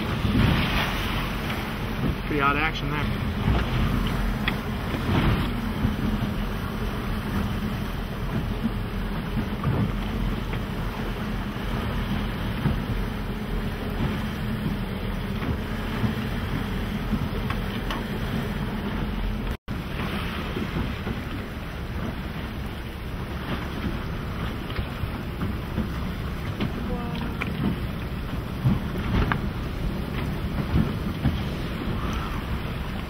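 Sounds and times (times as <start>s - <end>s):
boat engine hum: 0.0s - 33.0s
wind and waves: 0.0s - 33.0s.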